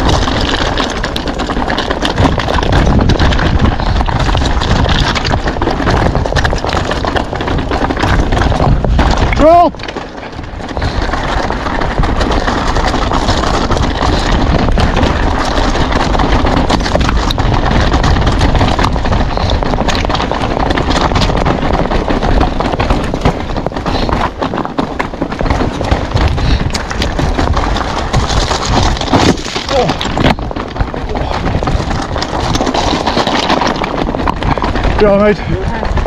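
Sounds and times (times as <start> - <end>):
bike clattering over stones: 0.0 - 36.0
wind rumble on microphone: 0.0 - 36.0.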